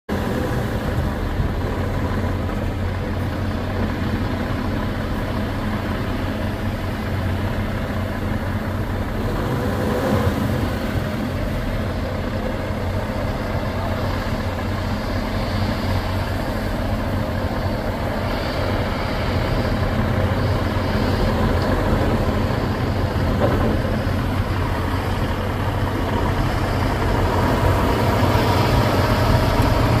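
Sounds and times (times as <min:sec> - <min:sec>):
heavy diesel engine running: 0:00.1 - 0:30.0.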